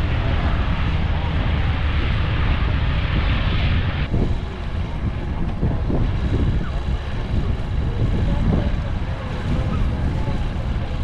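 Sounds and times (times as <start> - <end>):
faint voices: 0.0 - 11.0
steady low rumble: 0.0 - 11.0
wind buffeting microphone: 0.0 - 11.0.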